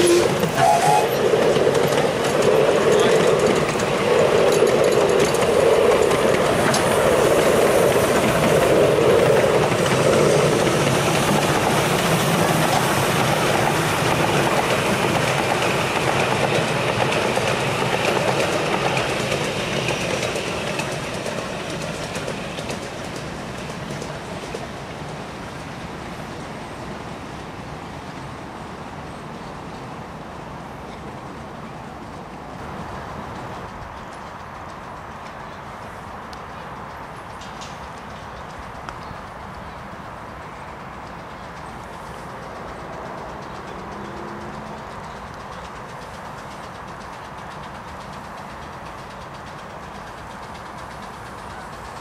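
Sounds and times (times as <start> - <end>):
train wheels clacking on rails: 0.0 - 52.0.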